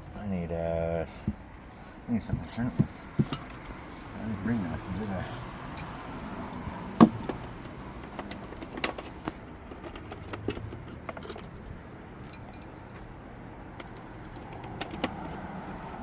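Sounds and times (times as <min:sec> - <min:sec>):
metal tools clinking: 0:01.2 - 0:15.8.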